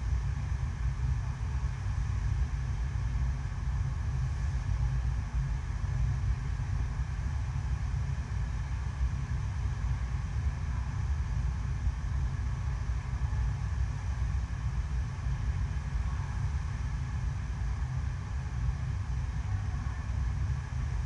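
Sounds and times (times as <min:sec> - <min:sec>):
constant low rumble: 0:00.0 - 0:21.0.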